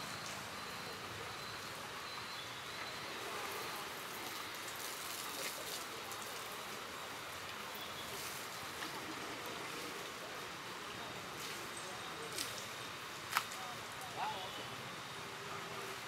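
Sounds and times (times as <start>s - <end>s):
hose water spraying and splashing: 0.0s - 16.0s.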